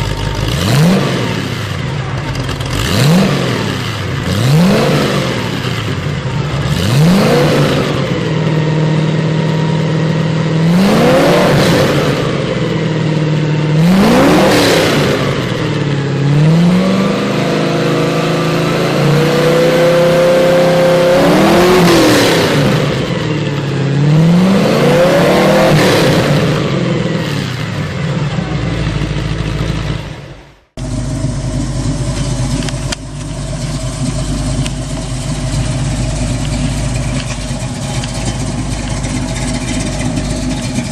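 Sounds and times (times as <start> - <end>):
car engine revving: 0.0 - 40.9
engine running steadily: 0.0 - 40.9.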